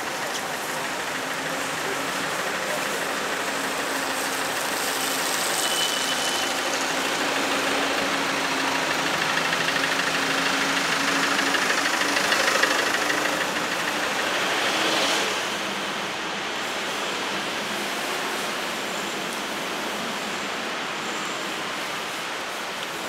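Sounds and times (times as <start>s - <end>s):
street noise hiss: 0.0s - 23.0s
vehicle engine humming: 0.0s - 23.0s.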